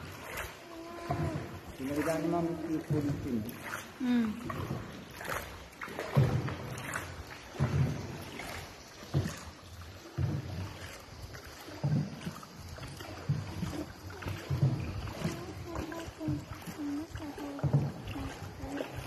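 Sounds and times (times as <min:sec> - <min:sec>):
paddle strokes in water: 0:00.0 - 0:19.0.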